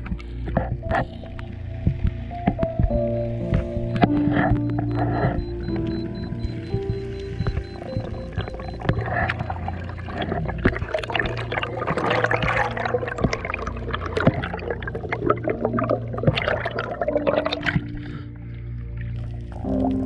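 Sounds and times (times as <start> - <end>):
underwater bubbling and gurgling: 0.0 - 20.0.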